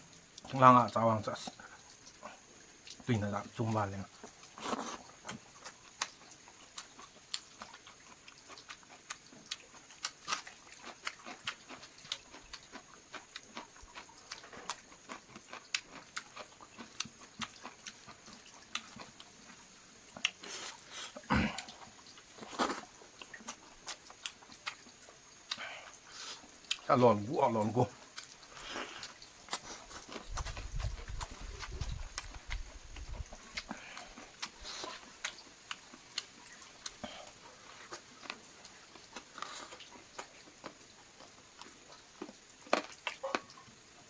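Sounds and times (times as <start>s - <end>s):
wet chewing: 4.1s - 43.8s.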